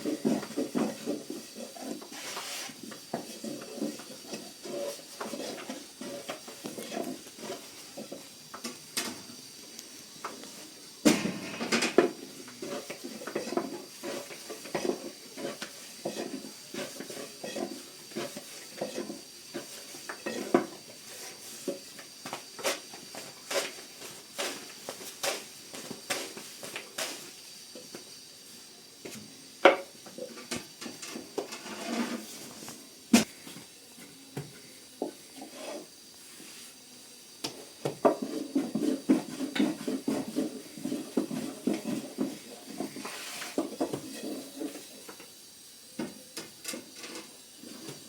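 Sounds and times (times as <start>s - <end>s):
pots and pans clattering: 0.0s - 9.4s, 11.0s - 28.0s, 29.6s - 32.5s, 37.5s - 45.3s, 46.0s - 48.0s.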